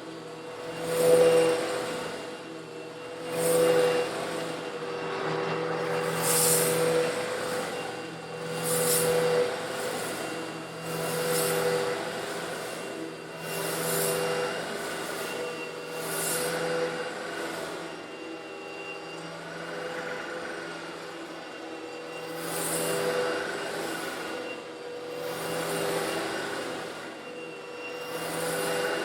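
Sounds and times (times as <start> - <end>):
vacuum cleaner motor hum: 0.0 - 29.0.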